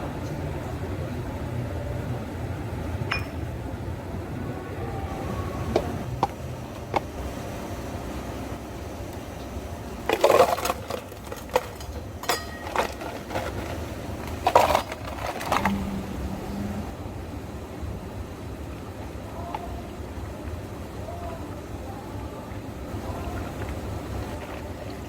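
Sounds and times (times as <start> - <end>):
low hum of cafe equipment: 0.0 - 25.0.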